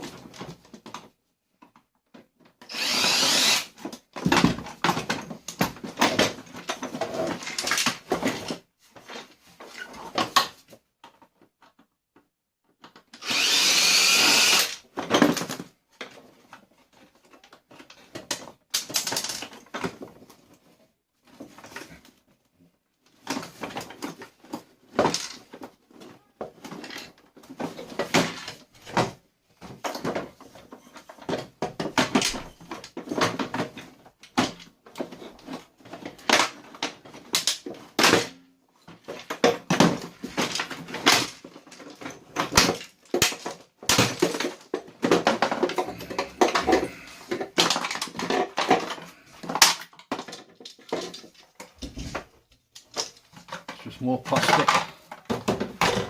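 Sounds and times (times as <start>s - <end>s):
plastic parts clicking and cracking: 3.4s - 13.5s, 14.3s - 20.6s, 23.0s - 56.0s.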